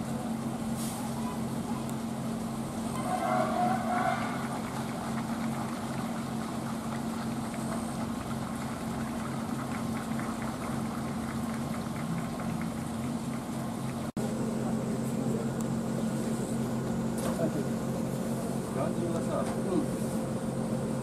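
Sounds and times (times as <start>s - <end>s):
locomotive machinery humming: 0.0s - 21.0s.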